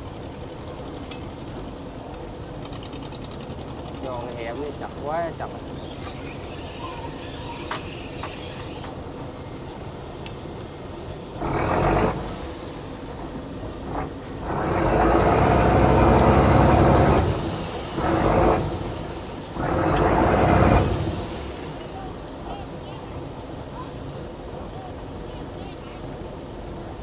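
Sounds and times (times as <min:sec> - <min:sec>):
boat machinery surging: 0:00.0 - 0:27.0.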